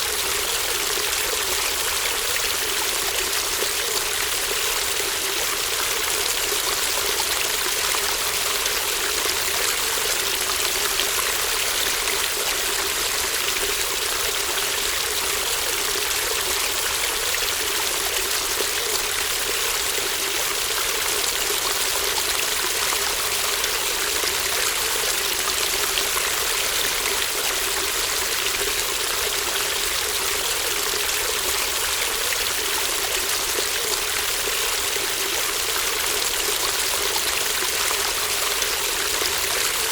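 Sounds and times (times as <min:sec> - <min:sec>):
shallow running water: 0:00.0 - 0:39.9.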